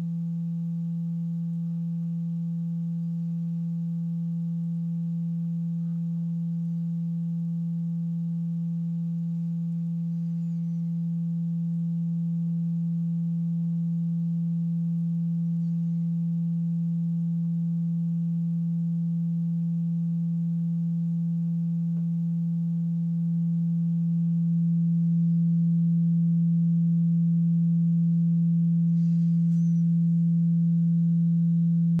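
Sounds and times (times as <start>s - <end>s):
low sine tone: 0.0s - 32.0s.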